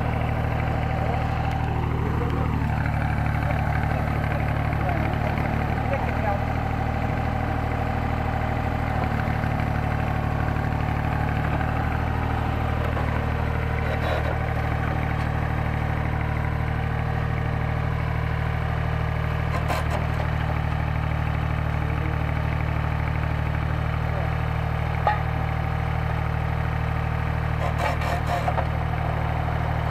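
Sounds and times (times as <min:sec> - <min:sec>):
pile driver engine idling: 0:00.0 - 0:29.9.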